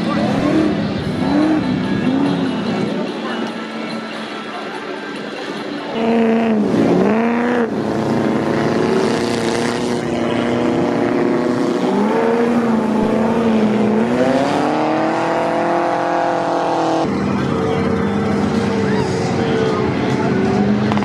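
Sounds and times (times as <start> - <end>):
truck engine revving: 0.0 - 3.6, 5.5 - 21.0.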